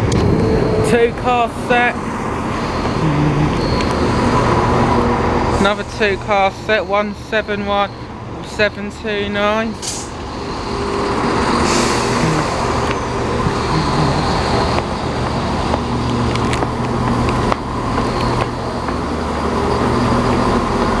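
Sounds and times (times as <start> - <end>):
diesel train engine drone: 0.0 - 21.0.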